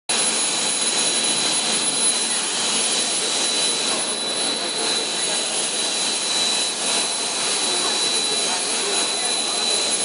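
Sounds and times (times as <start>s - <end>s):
high-pitched whine: 0.1s - 10.0s
steady machine noise: 0.1s - 10.0s.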